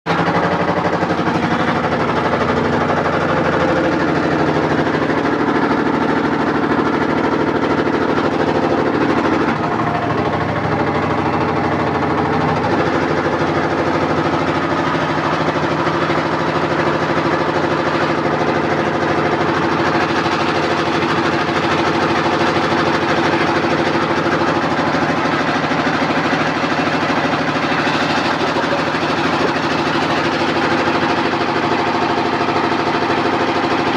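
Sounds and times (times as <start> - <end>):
washing machine rattling: 0.1 - 33.9.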